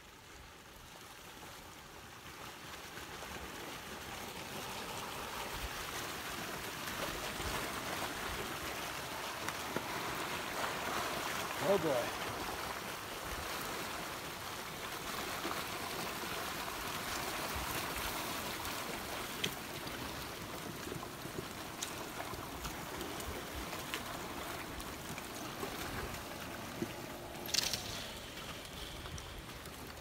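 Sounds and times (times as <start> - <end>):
muddy water rushing and gurgling: 0.0 - 30.0.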